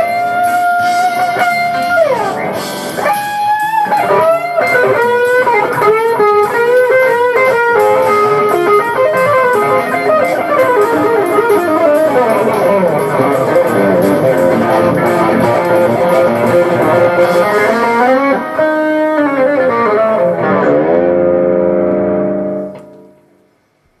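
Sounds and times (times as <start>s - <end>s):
jazz fusion guitar: 0.0s - 23.5s.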